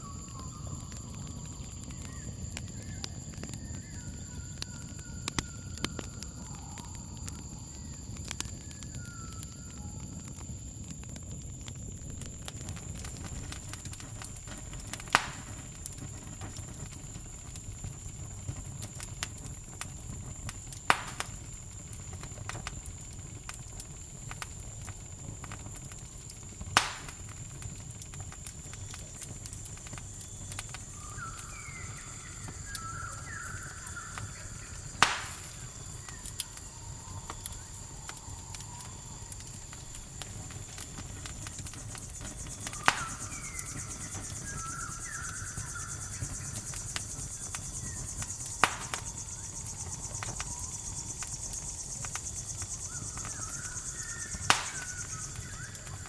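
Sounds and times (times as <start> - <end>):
campfire crackling and popping: 0.0 - 56.0
cricket trill: 0.0 - 56.0.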